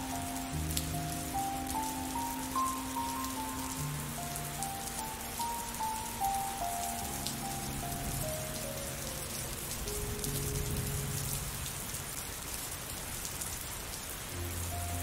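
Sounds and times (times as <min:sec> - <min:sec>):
soft background music: 0:00.0 - 0:11.9, 0:14.3 - 0:15.0
steady rain falling: 0:00.0 - 0:15.0.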